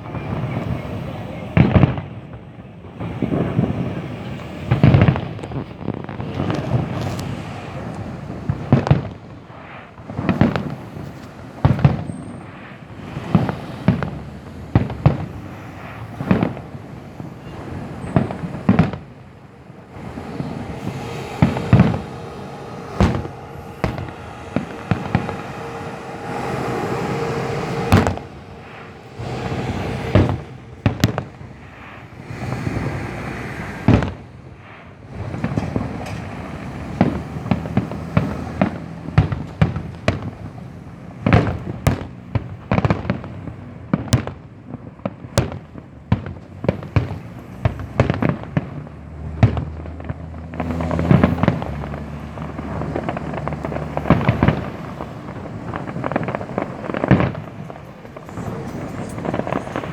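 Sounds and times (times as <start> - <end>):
firework shell bursts: 0.0 - 44.4, 45.3 - 59.9
firework crackling: 0.0 - 59.9.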